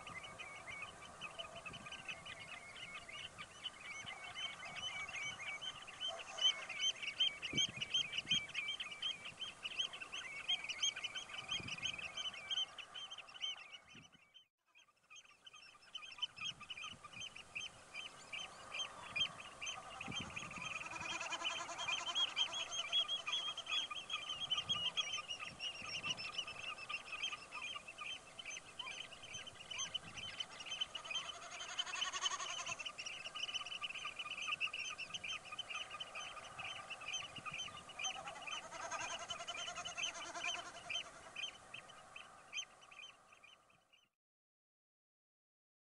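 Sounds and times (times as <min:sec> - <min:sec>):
wading birds calling: 0:00.0 - 0:44.0.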